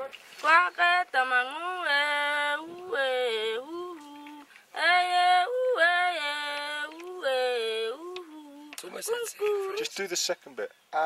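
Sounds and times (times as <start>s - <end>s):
woman yodel-like singing: 0.0s - 9.8s.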